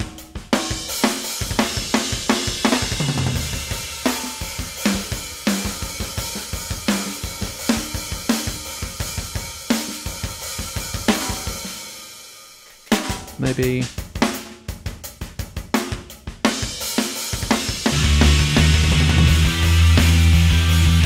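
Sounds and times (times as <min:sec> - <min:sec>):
rock drum beat: 0:00.0 - 0:21.0.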